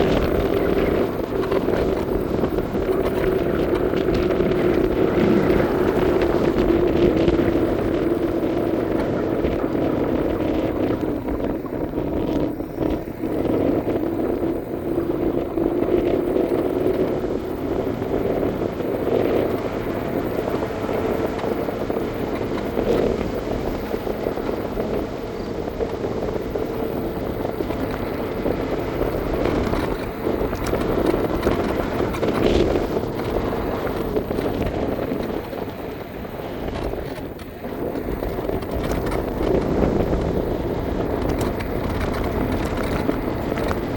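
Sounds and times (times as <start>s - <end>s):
electric scooter motor whining: 0.0s - 43.9s
wind and tyre noise: 0.0s - 43.9s.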